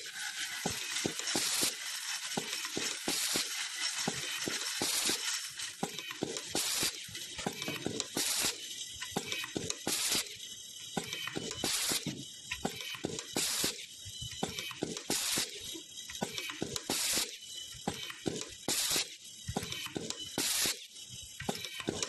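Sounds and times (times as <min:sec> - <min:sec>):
screws clicking and clinking: 0:00.0 - 0:22.0.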